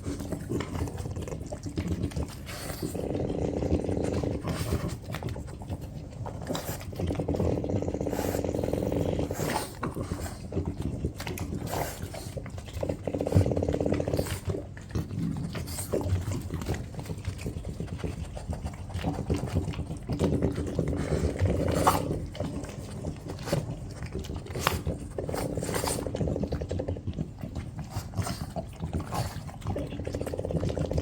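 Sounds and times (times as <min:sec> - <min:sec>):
dog growling: 0:00.0 - 0:31.0.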